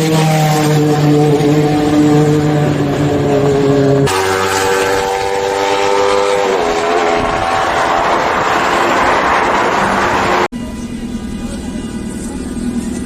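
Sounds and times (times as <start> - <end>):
motorcycle engine at high revs: 0.0 - 10.5
rush of wind and road noise: 0.0 - 10.5.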